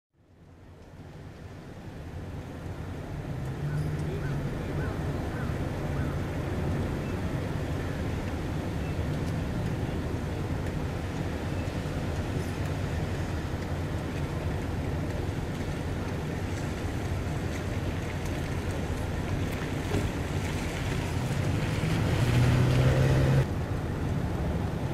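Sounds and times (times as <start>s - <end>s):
car engines rumbling low: 0.3s - 24.9s.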